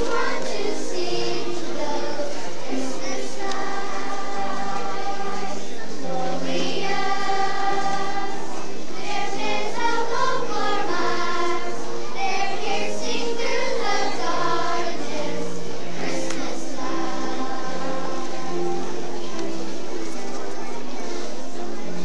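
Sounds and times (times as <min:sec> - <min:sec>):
children's choir singing: 0:00.0 - 0:22.0
low held accompaniment notes: 0:00.0 - 0:22.0.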